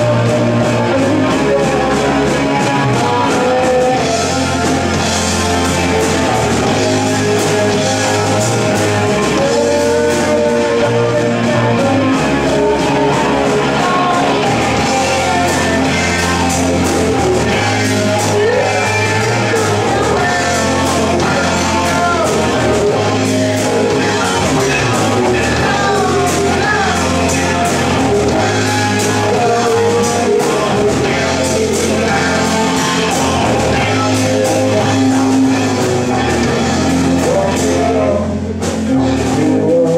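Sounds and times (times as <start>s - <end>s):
distorted electric guitar: 0.0s - 39.9s
drum kit beat: 0.0s - 39.9s
electric bass: 0.0s - 39.9s
person singing: 0.0s - 39.9s.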